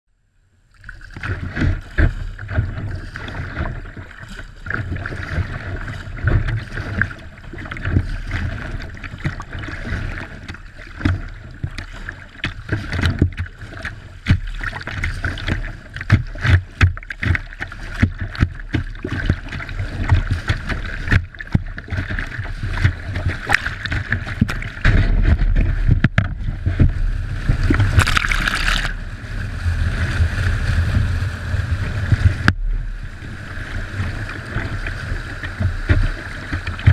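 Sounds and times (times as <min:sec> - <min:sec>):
water rushing against hull: 0:00.6 - 0:36.9
paddle blades splashing: 0:00.7 - 0:36.9.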